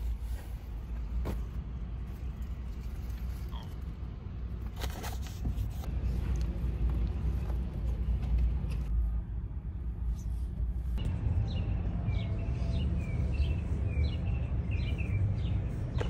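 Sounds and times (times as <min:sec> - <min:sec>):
low rumble inside a van: 0:00.0 - 0:16.0.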